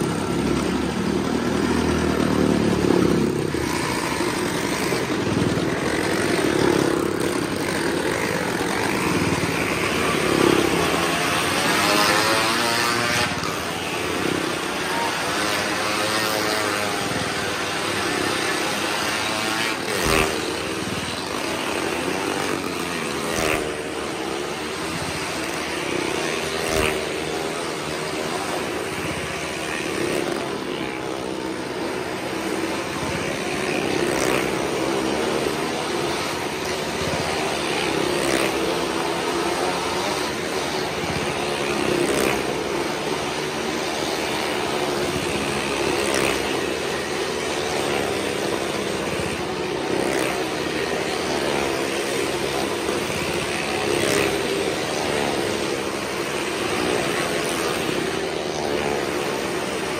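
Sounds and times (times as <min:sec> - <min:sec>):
motorcycle engines wavering: 0:00.0 - 0:59.9.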